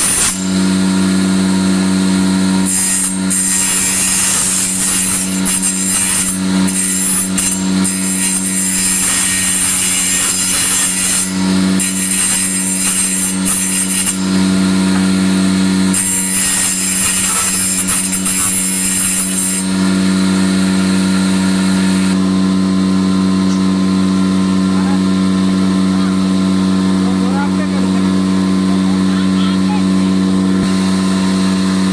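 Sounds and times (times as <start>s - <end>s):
power tool humming: 0.0s - 31.9s.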